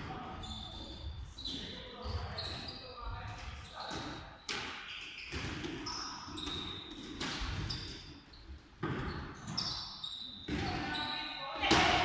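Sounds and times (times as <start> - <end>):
balls bouncing on hall floor: 0.0 - 12.0.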